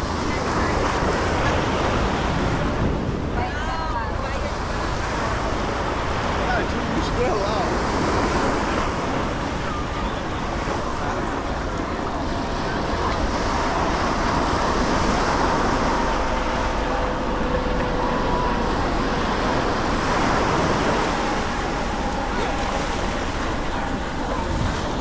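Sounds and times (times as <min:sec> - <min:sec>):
distant traffic: 0:00.0 - 0:25.0
ocean surf on beach: 0:00.0 - 0:25.0
wind buffeting microphone: 0:00.0 - 0:25.0.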